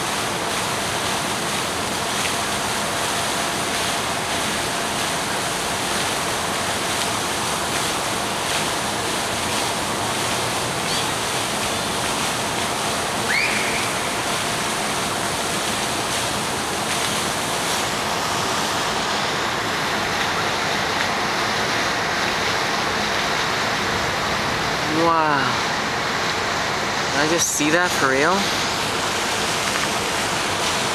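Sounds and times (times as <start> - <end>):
steady outdoor rushing noise: 0.0 - 30.9.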